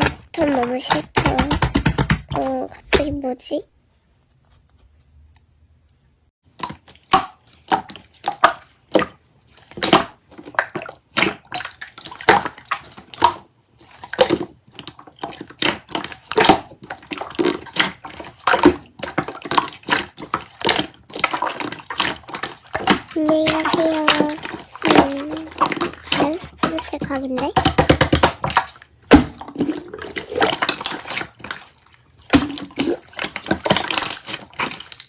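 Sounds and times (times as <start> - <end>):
slime squelching: 0.0 - 3.6, 6.5 - 35.0.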